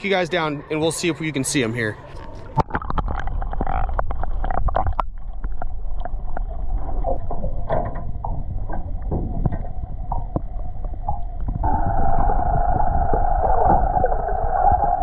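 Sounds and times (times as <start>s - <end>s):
muffled underwater water rumble: 0.0s - 15.0s.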